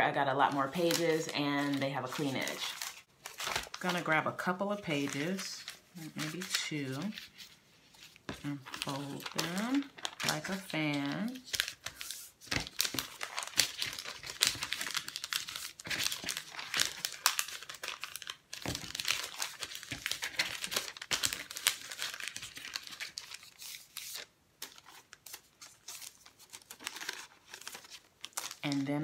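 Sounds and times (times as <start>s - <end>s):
paper pages crinkling and rustling: 0.4s - 29.0s.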